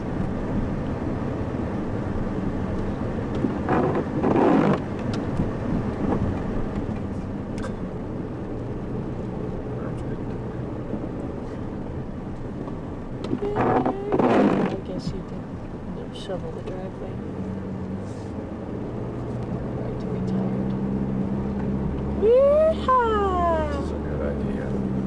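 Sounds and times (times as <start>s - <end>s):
car running on snowy road: 0.0s - 25.0s.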